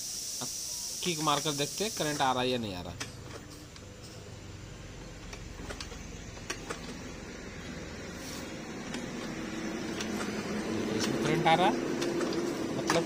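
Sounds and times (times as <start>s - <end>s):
low background hum: 0.7s - 13.0s.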